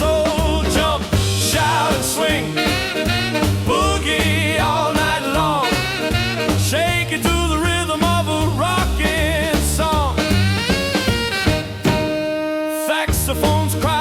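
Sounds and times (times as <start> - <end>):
bass line: 0.0 - 14.0.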